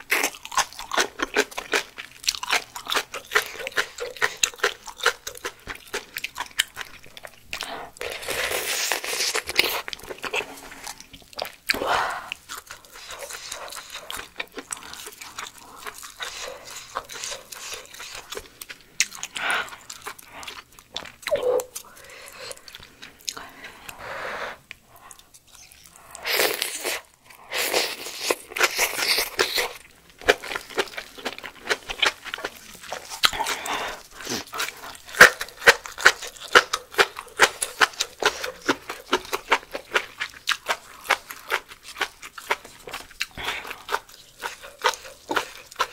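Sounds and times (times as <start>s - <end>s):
wet crunchy chewing: 0.0s - 24.0s, 24.7s - 45.9s.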